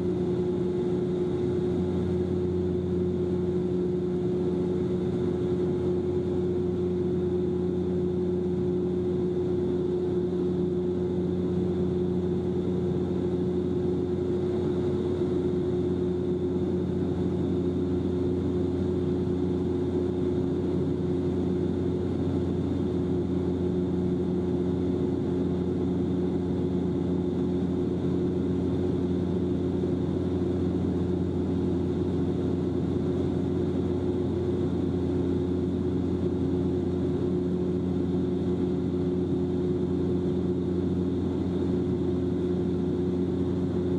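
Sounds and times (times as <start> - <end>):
airplane cabin engine drone: 0.0 - 43.9.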